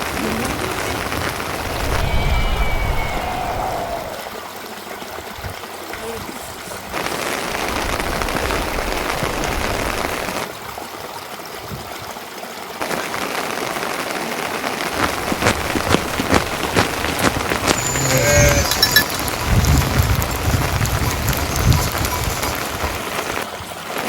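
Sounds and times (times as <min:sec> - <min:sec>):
large raindrops pattering: 0:00.0 - 0:02.2, 0:04.0 - 0:10.6, 0:12.8 - 0:24.0
rain falling: 0:00.0 - 0:10.9, 0:12.8 - 0:24.0.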